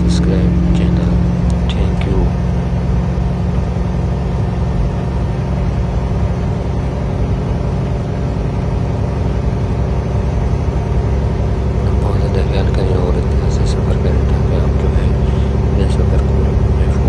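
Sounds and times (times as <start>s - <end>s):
constant low hum: 0.0s - 17.0s
vehicle engine and road rumble: 0.0s - 17.0s.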